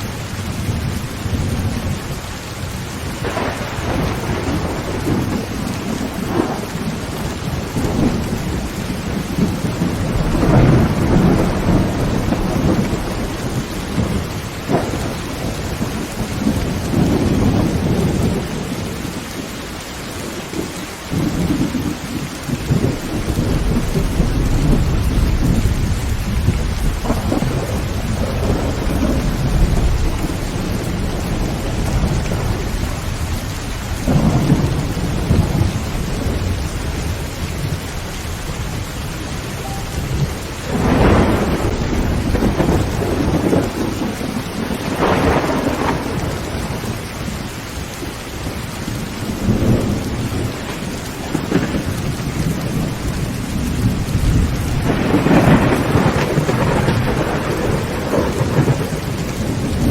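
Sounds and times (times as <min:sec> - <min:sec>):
thunder rumbling: 0:00.0 - 0:19.5, 0:20.2 - 0:59.9
heavy rain on a tin roof: 0:00.0 - 0:59.9.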